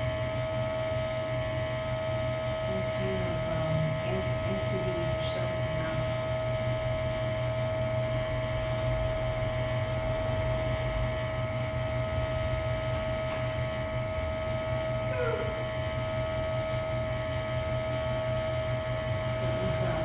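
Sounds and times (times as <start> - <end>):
constant mid-pitched hum: 0.0 - 20.0
low rumble with hiss: 2.5 - 20.0.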